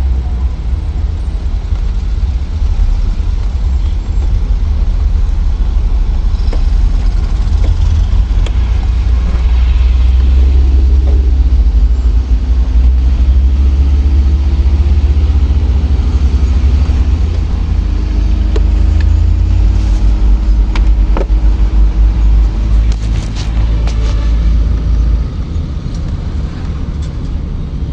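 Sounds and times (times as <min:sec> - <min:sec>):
minibus engine rumbling: 0:00.0 - 0:27.9.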